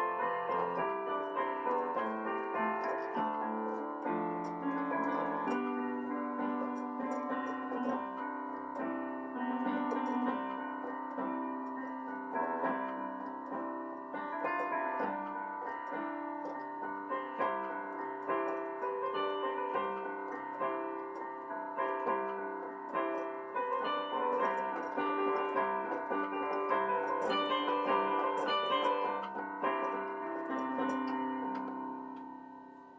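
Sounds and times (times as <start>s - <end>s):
solo piano playing: 0.0s - 32.9s.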